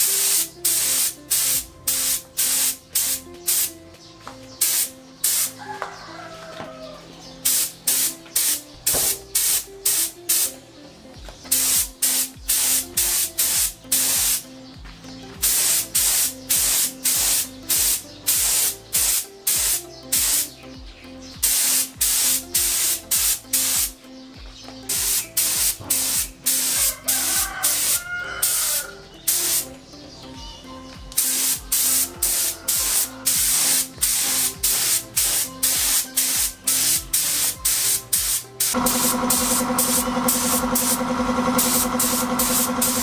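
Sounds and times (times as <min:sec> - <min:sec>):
spray gun hissing: 0:00.0 - 0:03.7, 0:04.6 - 0:05.6, 0:07.4 - 0:10.5, 0:11.5 - 0:14.4, 0:15.4 - 0:20.5, 0:21.4 - 0:24.0, 0:24.9 - 0:29.7, 0:31.2 - 0:43.0
background music with beat: 0:00.0 - 0:43.0.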